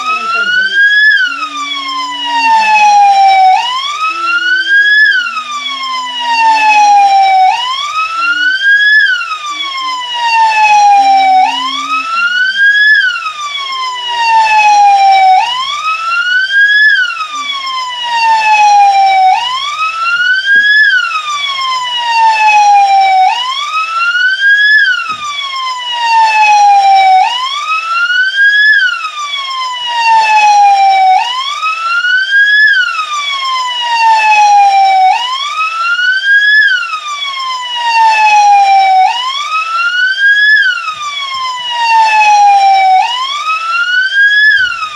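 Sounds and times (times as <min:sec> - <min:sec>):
police siren wailing: 0:00.0 - 0:44.9.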